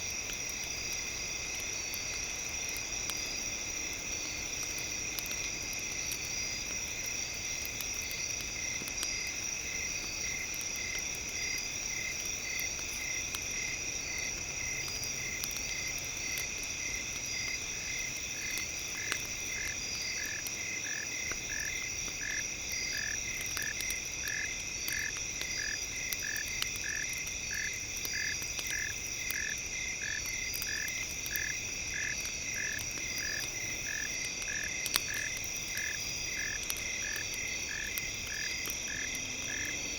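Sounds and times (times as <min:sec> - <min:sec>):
campfire crackle: 0:00.0 - 0:39.9.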